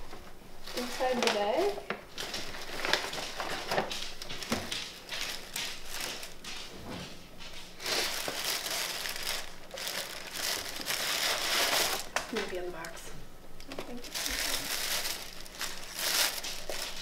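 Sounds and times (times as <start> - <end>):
tissue paper rustling and crinkling: 0.0 - 12.9, 14.0 - 17.0.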